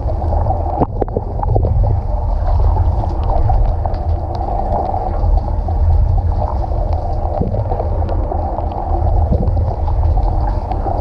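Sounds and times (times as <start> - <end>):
droplets ticking: 0.0 - 11.0
low constant rumble: 0.0 - 11.0.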